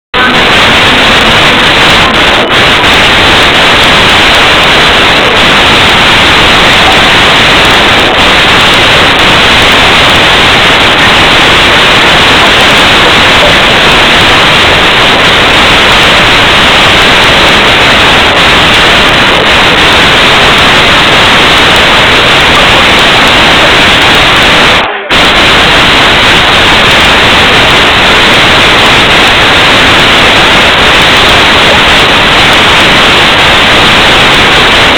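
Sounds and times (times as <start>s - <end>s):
loud static-like hiss: 0.0s - 34.9s.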